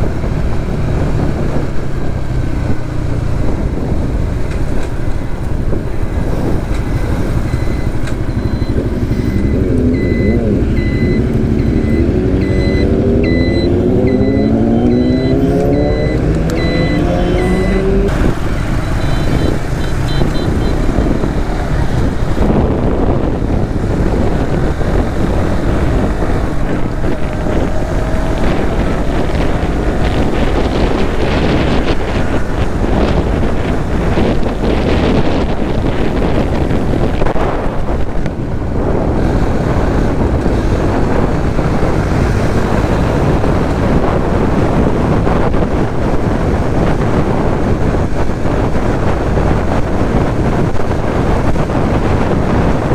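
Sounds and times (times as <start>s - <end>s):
motorcycle engine: 0.0s - 52.9s
road noise: 0.0s - 52.9s
wind buffeting microphone: 0.0s - 52.9s.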